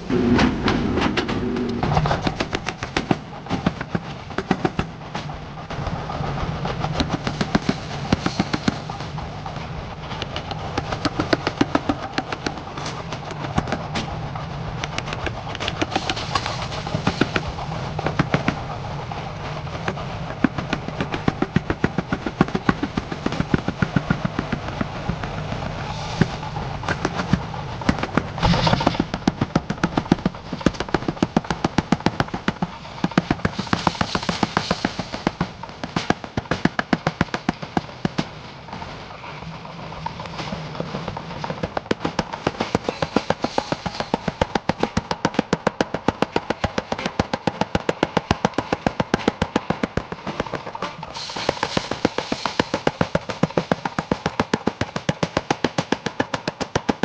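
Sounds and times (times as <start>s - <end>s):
hammer blows on hot steel: 6.9s - 39.0s, 40.4s - 57.0s.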